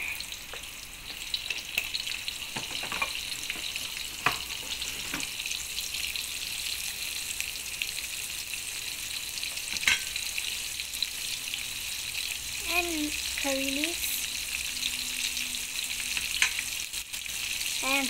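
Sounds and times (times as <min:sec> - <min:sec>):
oil popping and crackling: 0:00.0 - 0:18.0
onions sizzling in hot oil: 0:00.0 - 0:18.0.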